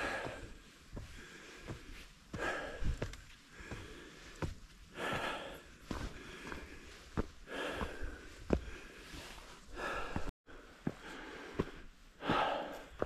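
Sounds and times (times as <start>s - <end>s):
footsteps on trail: 0.0s - 13.0s
person breathing hard: 0.0s - 13.0s.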